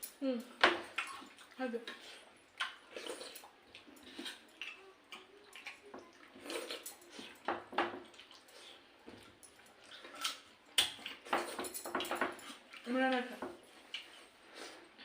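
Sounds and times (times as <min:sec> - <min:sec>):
wet eating squelches and slurps: 0:00.8 - 0:15.0.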